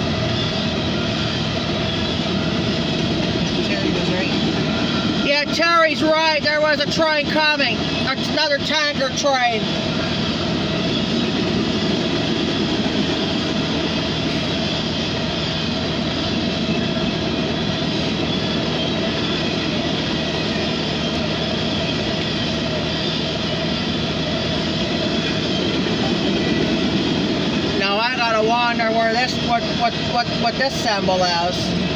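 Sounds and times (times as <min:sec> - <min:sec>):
train wheels rolling on rail: 0:00.0 - 0:31.9.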